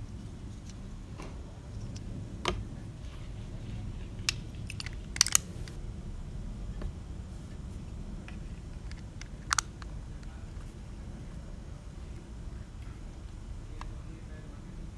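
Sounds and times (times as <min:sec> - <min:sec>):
low steady rumble: 0:00.0 - 0:14.9.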